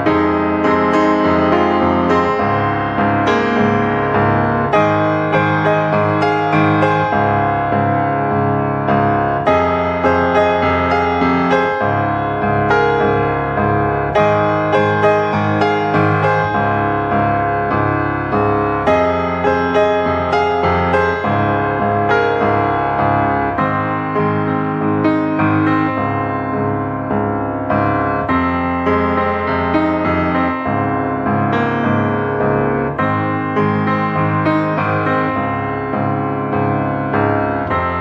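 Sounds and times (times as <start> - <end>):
gentle piano music: 0.0 - 38.0.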